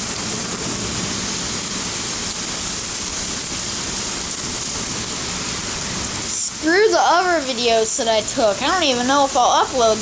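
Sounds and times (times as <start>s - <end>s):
heavy rain on concrete: 0.0s - 10.0s.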